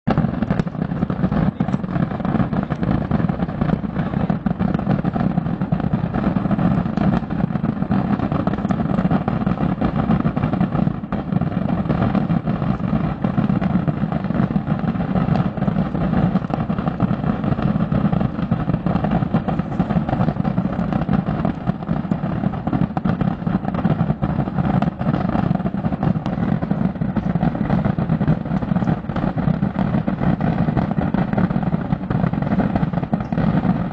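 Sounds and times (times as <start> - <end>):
firework rockets rumbling: 0.0 - 33.9
firework cracks: 0.1 - 33.9.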